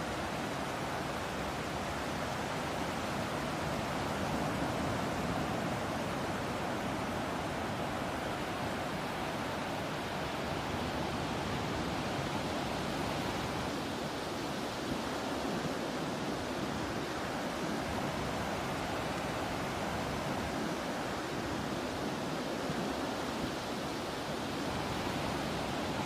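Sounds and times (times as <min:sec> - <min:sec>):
ocean surf rushing: 0:00.0 - 0:26.0.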